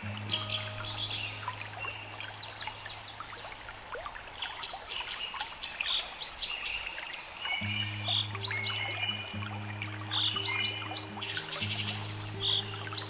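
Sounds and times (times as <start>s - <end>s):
small birds chirping: 0.0s - 13.0s
trickle of running water: 0.0s - 13.0s.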